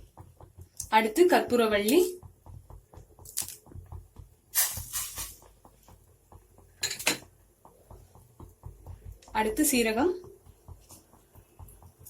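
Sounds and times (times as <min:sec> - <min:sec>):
water bubbling at a boil: 0:00.0 - 0:12.0.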